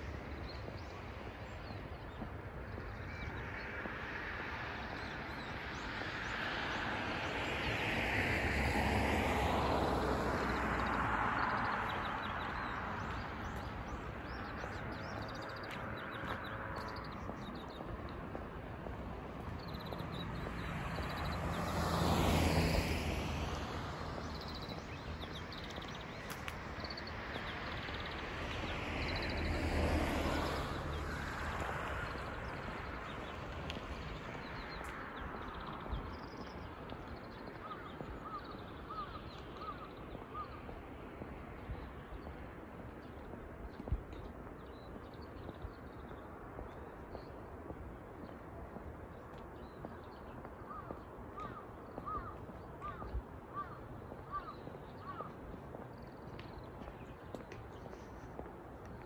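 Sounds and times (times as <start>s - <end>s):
cars passing on a road: 0.0s - 59.0s.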